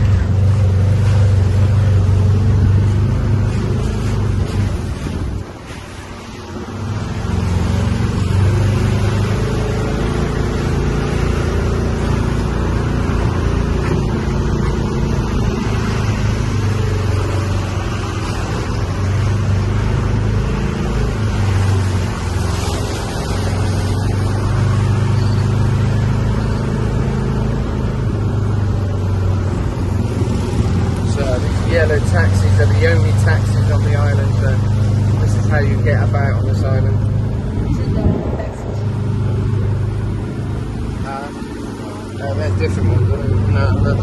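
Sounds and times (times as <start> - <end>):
road noise: 0.0 - 44.0
vehicle engine droning: 0.0 - 44.0.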